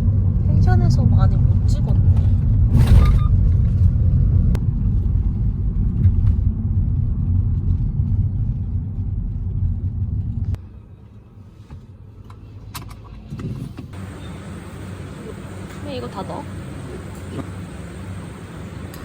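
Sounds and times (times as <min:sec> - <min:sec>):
car rumble from inside cabin: 0:00.0 - 0:10.6, 0:13.8 - 0:19.0.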